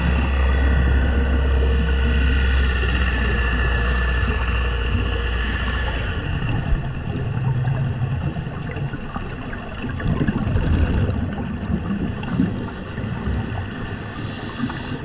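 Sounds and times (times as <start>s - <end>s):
underwater exhaled bubbles gurgling: 0.0s - 15.0s.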